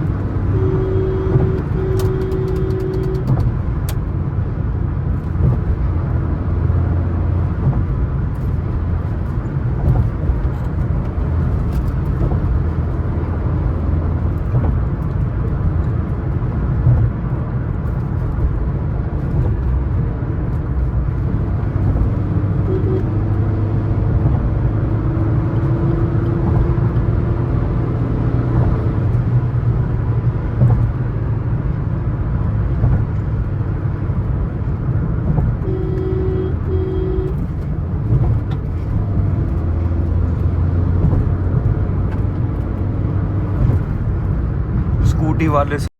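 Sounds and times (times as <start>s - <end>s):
car engine and tyre rumble: 0.0s - 45.9s.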